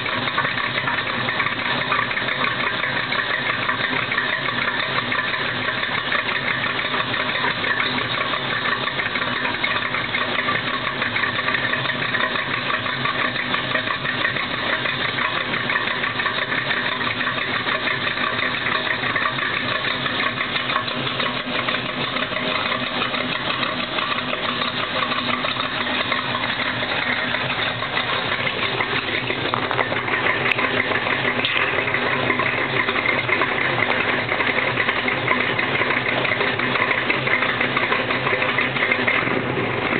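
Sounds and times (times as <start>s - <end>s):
vw engine running steadily: 0.0s - 39.9s.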